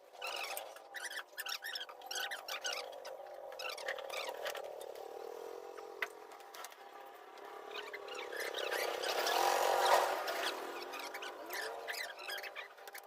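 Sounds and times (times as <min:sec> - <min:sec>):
small motor whirring: 0:00.2 - 0:13.0.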